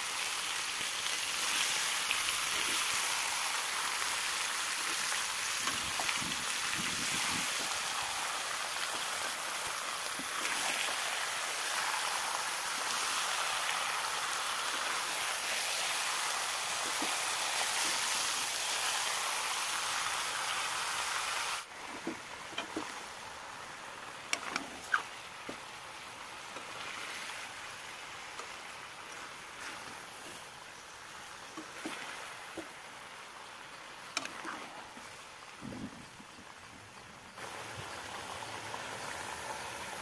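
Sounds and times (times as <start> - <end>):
chicken sizzling in metal pan: 0.0 - 35.6, 37.3 - 40.0
loud hiss: 0.0 - 36.4.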